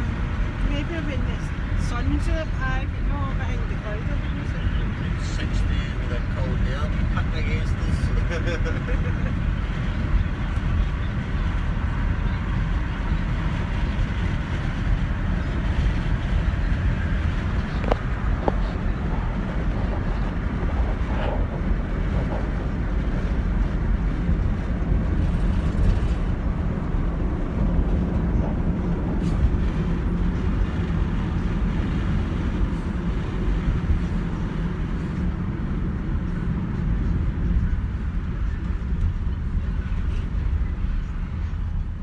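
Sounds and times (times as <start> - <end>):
road and engine rumble: 0.0 - 42.0.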